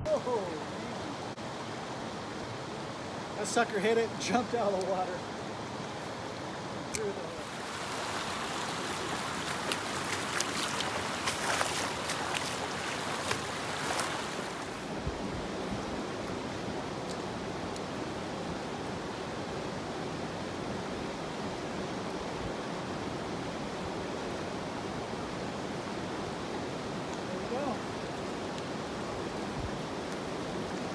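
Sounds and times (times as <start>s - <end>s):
creek water rushing over rocks: 0.0s - 30.9s.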